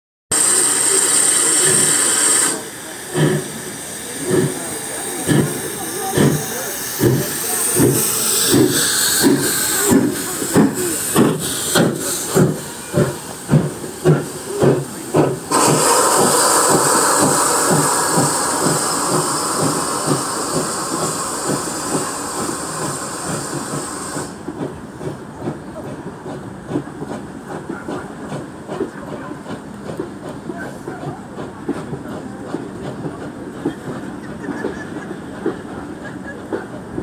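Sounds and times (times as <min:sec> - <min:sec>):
loud steam hissing: 0:00.3 - 0:37.0.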